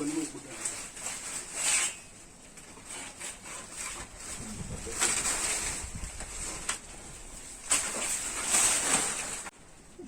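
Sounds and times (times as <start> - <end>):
rustle: 0.0 - 10.0.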